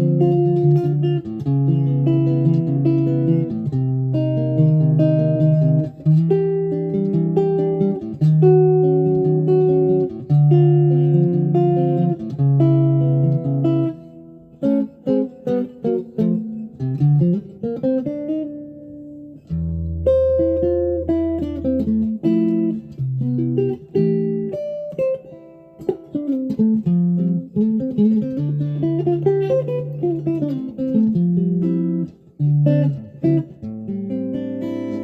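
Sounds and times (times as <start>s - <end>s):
solo electric guitar playing: 0.0s - 35.0s.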